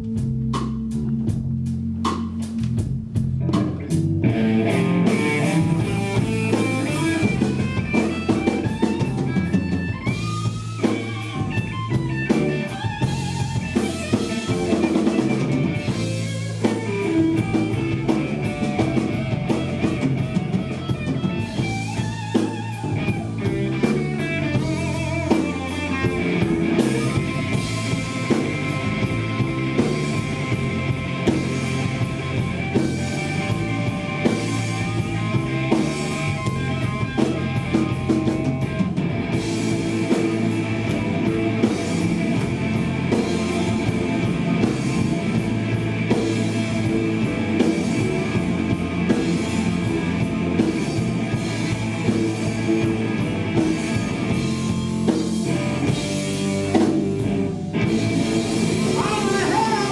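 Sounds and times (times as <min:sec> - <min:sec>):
bass notes: 0:00.0 - 0:59.9
blues-rock band playing: 0:00.0 - 0:59.9
lead electric guitar: 0:02.6 - 0:59.9.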